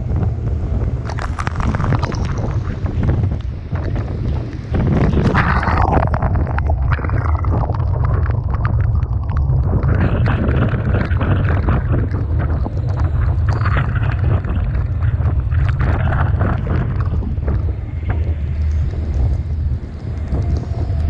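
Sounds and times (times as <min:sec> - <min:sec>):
waves breaking: 0:00.0 - 0:21.0
wind buffeting microphone: 0:00.0 - 0:21.0
splashing water and spray: 0:00.9 - 0:21.0.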